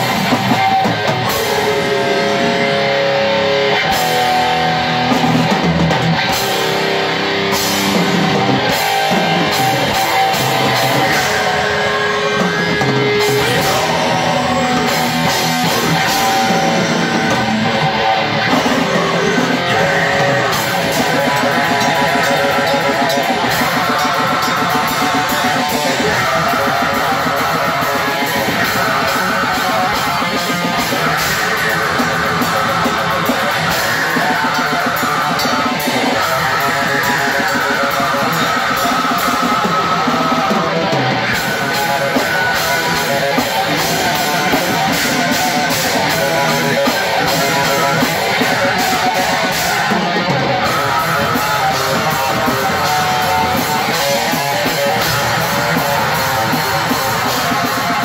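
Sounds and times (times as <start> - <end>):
drum kit drumming: 0.0 - 58.0
electric guitar: 0.0 - 58.0.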